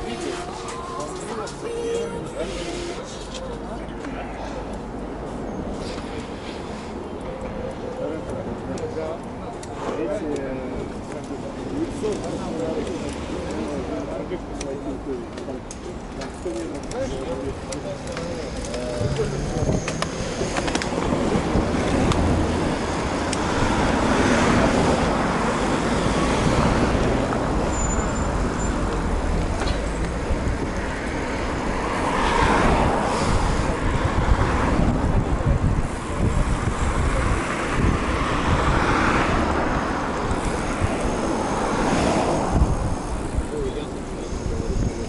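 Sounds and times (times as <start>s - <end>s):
cars passing by: 0.0s - 45.0s
low traffic rumble: 0.0s - 45.0s.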